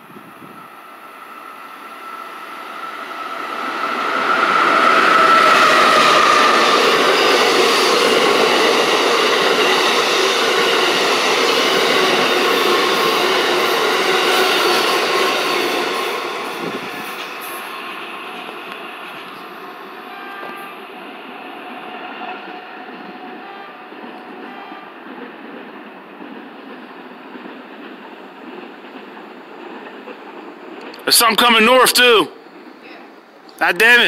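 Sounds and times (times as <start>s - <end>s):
wheels rumbling on rail: 0.0s - 31.0s
high locomotive whine: 0.0s - 34.0s.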